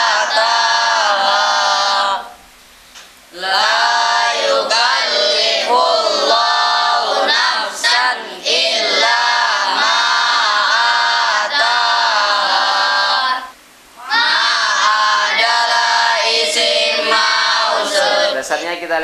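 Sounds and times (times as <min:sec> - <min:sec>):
boys chanting in unison: 0:00.0 - 0:02.4, 0:03.3 - 0:18.8.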